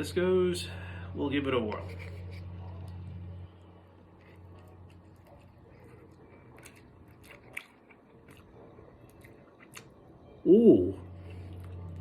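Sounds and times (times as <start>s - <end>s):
person chewing noodles: 1.9s - 12.0s.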